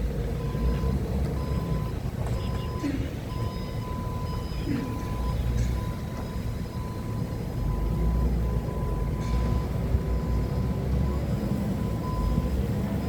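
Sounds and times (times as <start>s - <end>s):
forklift engine rumble: 0.0s - 13.0s.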